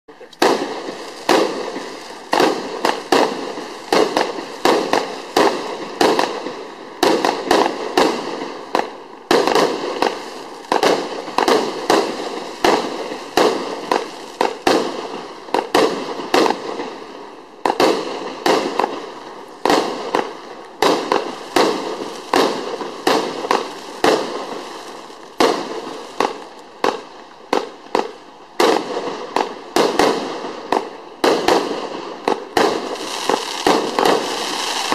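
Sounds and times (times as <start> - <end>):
fireworks firing sharp reports: 0.1 - 34.9.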